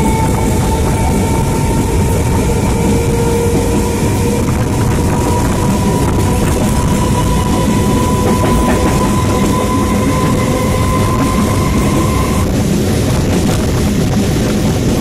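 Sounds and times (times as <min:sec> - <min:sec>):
steady whine: 0:00.0 - 0:14.0
train wheels rushing on rail: 0:00.0 - 0:15.0.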